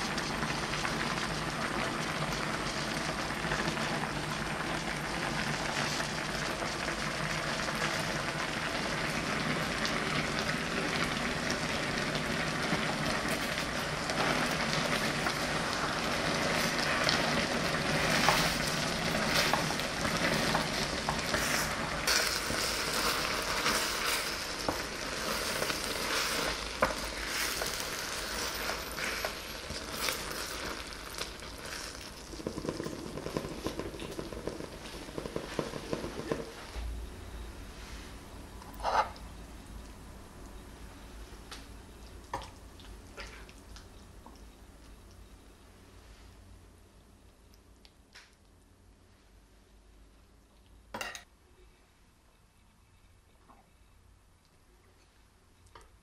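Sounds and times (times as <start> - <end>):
sauce bubbling and sizzling: 0.0 - 46.5.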